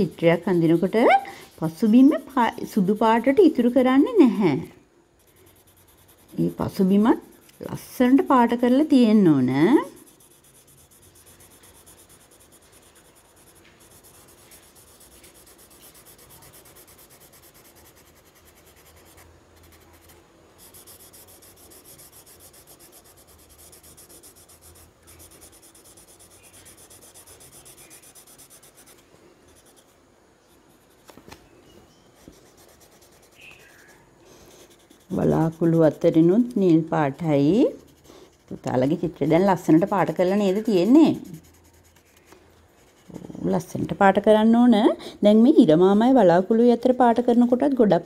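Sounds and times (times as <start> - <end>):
crayon scratching on paper: 0.0 - 4.4, 5.2 - 29.9, 32.2 - 36.6, 37.2 - 44.0.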